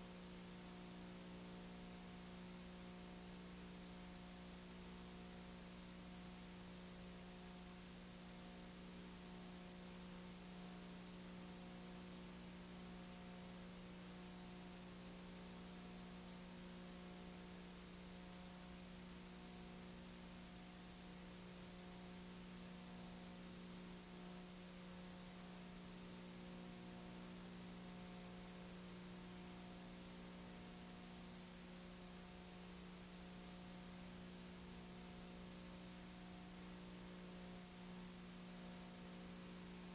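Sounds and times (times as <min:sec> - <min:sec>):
electrical hum with hiss: 0:00.0 - 0:39.9.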